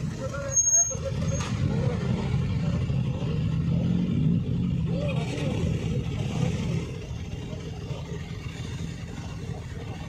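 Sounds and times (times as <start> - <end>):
engines rumbling: 0.0 - 10.0.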